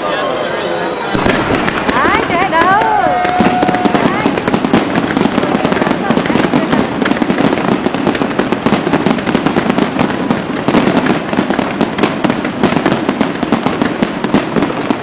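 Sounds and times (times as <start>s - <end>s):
fireworks bangs and crackles: 1.1s - 15.0s.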